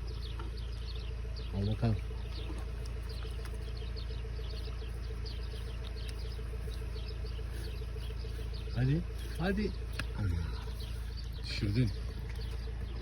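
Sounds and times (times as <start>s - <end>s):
small animals chirping: 0.0s - 13.0s
steady low hum: 0.0s - 13.0s.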